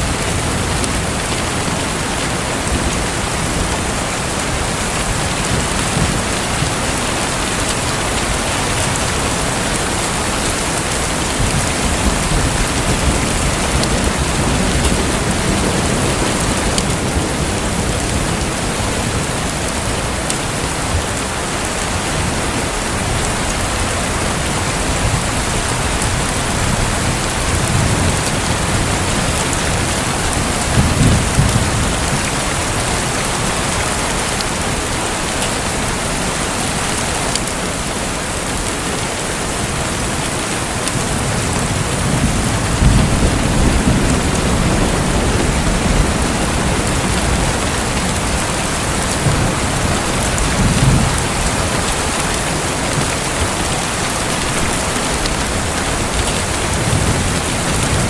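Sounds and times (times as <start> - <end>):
distant thunder rumbling: 0.0 - 21.2, 23.1 - 34.9, 41.0 - 58.0
steady rain falling: 0.0 - 58.0.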